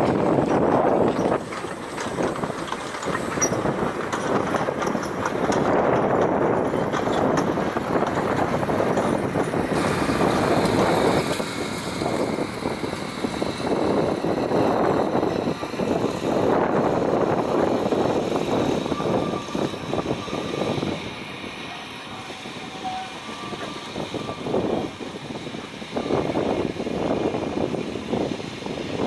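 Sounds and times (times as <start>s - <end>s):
train carriages rattling on track: 0.0s - 29.0s.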